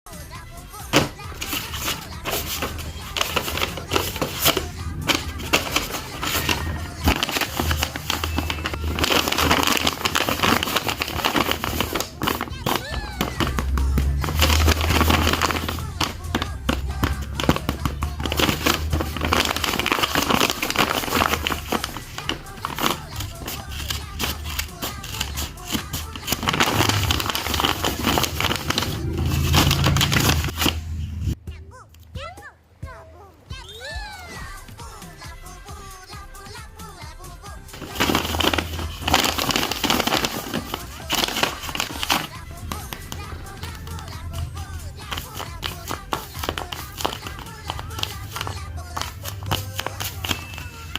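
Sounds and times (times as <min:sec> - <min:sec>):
paper crinkling: 0:00.9 - 0:30.8, 0:37.7 - 0:50.9.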